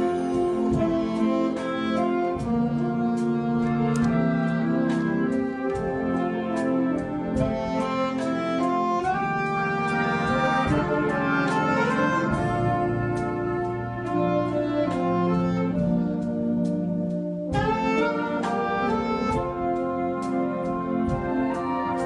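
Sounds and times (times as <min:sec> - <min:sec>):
concert band playing: 0:00.0 - 0:22.0
saxophone solo: 0:00.0 - 0:22.0.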